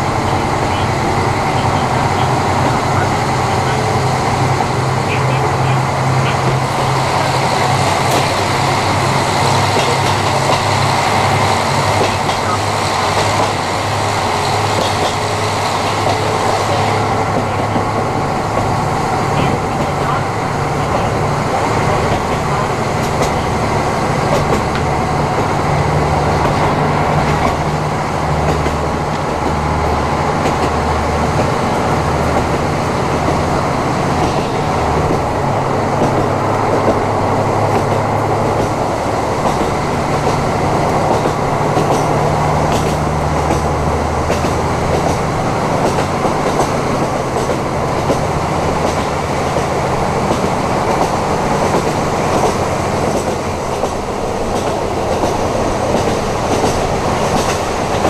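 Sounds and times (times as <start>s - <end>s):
diesel engine drone: 0.0s - 58.0s
wheels rumbling on rails: 0.0s - 58.0s.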